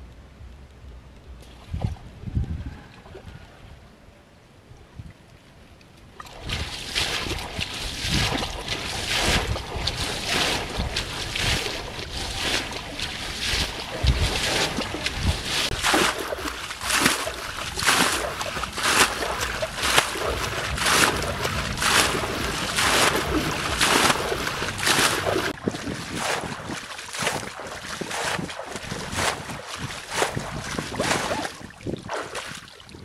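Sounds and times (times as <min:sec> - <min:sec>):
water gushing over grass: 0:06.2 - 0:33.0.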